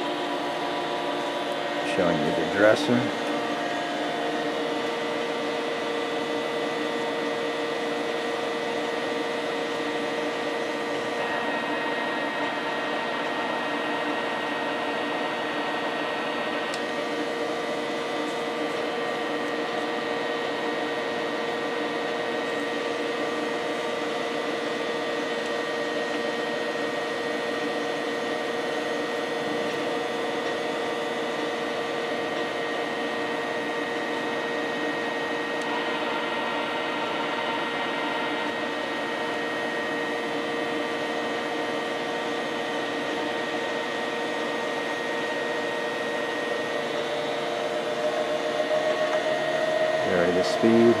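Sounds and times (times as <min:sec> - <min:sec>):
constant machine whine: 0:00.0 - 0:51.0
grinder machine hum: 0:00.0 - 0:51.0.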